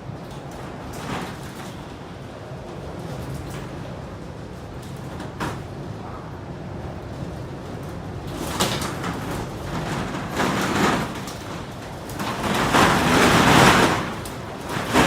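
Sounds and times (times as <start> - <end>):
gusting wind: 0.0 - 15.0.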